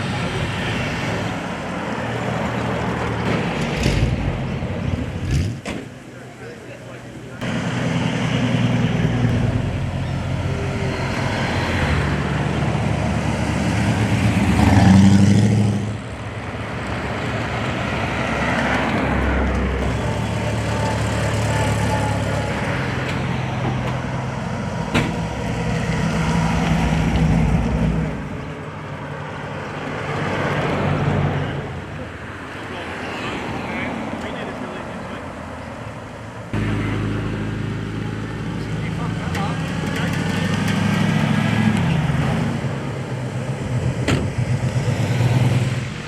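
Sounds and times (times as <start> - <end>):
car engines droning: 0.0 - 46.0.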